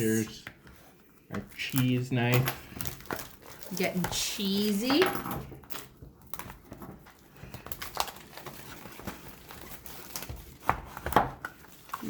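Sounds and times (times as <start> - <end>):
shrink wrap crinkling: 0.0 - 12.0.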